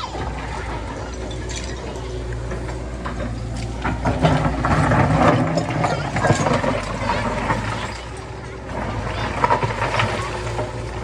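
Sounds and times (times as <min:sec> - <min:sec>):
construction machine engine running: 0:00.0 - 0:11.0
metallic rattling and clanking: 0:00.2 - 0:11.0.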